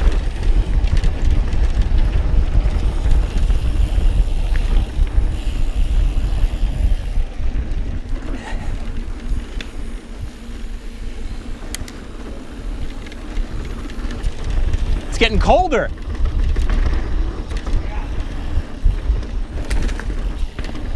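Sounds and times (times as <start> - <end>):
sharp clicks from bike: 0.0 - 20.9
tyres rolling over dirt: 0.0 - 20.9
wind buffeting microphone: 0.0 - 20.9.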